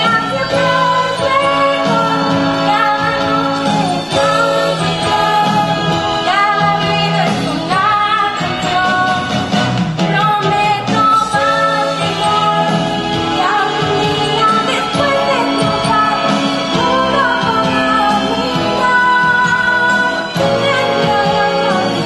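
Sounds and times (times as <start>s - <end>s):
song with singing: 0.0s - 22.0s.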